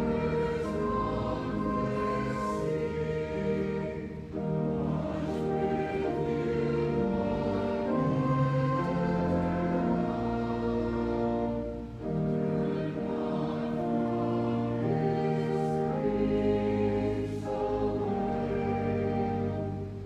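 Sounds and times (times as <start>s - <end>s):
slow hymn music: 0.0s - 20.0s.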